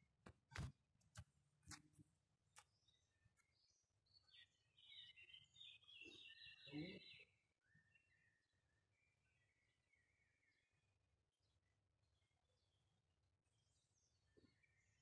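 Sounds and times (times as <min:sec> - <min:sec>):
small songbird chirping: 0:01.7 - 0:15.0.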